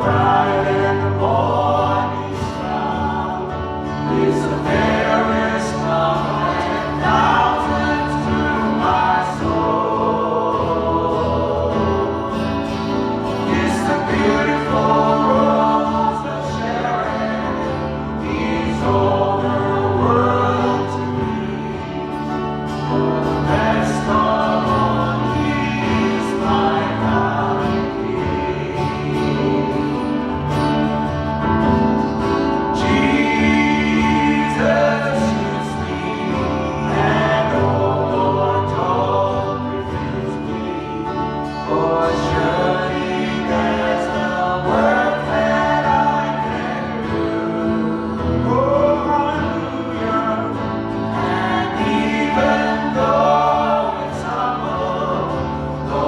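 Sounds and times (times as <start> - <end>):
group of voices singing: 0.0 - 56.0
instrumental backing chords: 0.0 - 56.0.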